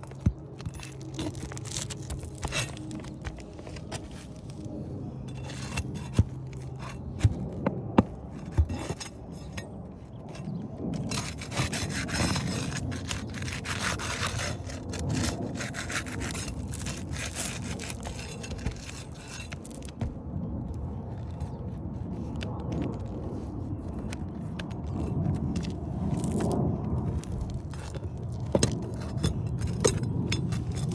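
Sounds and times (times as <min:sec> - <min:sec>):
shingles scraping: 0:00.0 - 0:20.2, 0:23.9 - 0:30.9.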